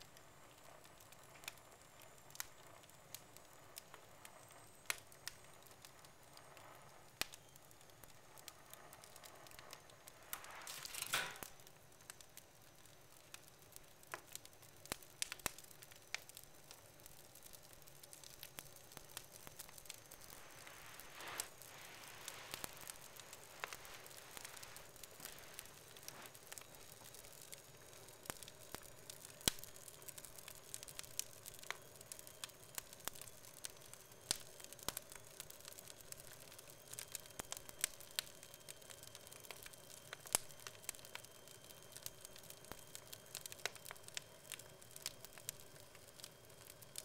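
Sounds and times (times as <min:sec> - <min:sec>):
logs crackling and popping: 0:00.0 - 0:47.0
soft fire hiss: 0:00.0 - 0:47.0.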